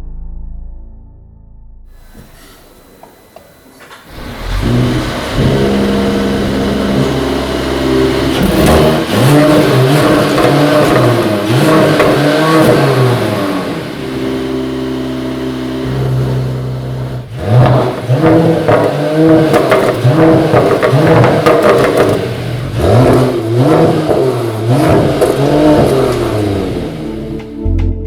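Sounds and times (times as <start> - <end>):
car engine revving: 3.8 - 28.0.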